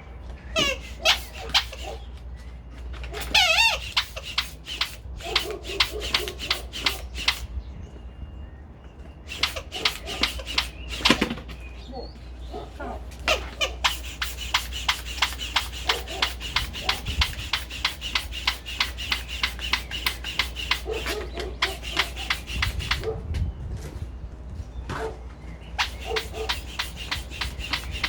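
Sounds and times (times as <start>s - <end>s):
air pump strokes: 0.4s - 7.7s, 9.1s - 11.7s, 13.2s - 24.0s, 25.7s - 28.0s.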